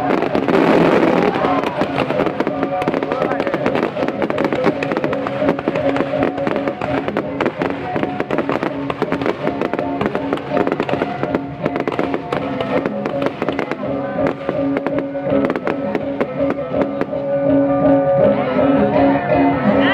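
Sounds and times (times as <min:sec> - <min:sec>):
fireworks crackling and popping: 0:00.0 - 0:17.7
music with held notes: 0:00.0 - 0:19.9.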